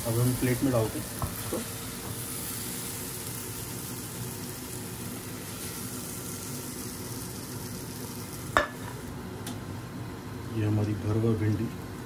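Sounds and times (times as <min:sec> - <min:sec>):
steady kitchen hiss: 0:00.0 - 0:12.0.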